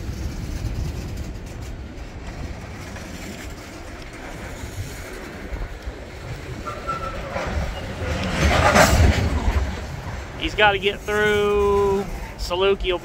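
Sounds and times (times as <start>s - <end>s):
freight cars rolling past: 0.0s - 13.0s.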